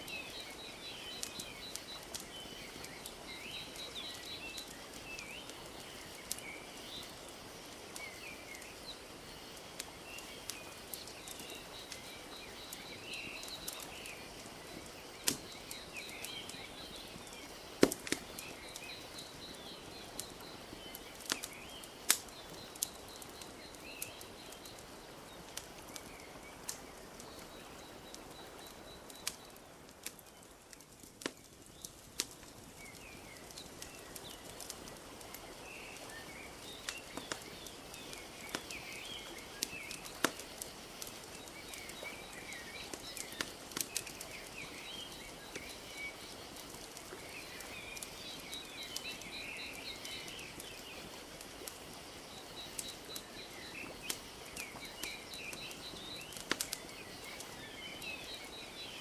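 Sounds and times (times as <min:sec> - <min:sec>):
birds chirping: 0:00.0 - 0:59.0
wood fire crackling: 0:00.0 - 0:59.0.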